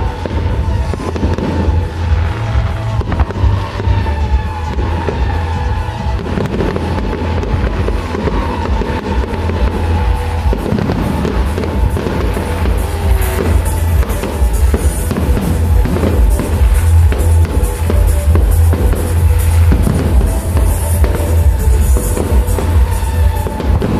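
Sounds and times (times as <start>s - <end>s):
fireworks cracking and banging: 0.0s - 23.9s
loud music with heavy beat: 0.0s - 23.9s.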